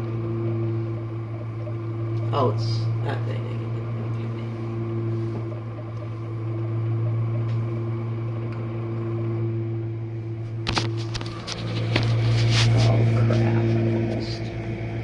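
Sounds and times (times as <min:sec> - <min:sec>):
dishwasher motor hum: 0:00.0 - 0:15.0.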